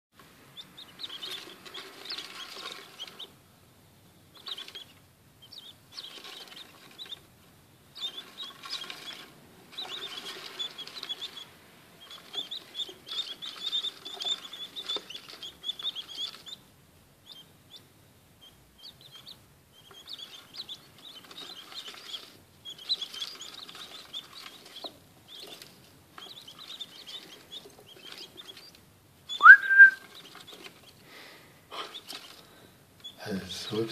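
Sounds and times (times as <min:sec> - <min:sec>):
quail chicks peeping: 0:00.4 - 0:03.4, 0:04.1 - 0:33.9.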